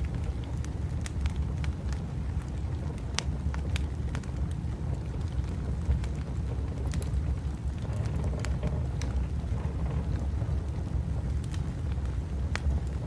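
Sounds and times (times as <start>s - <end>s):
howling wind: 0.0s - 13.0s
wood fire crackling and popping: 0.0s - 13.0s.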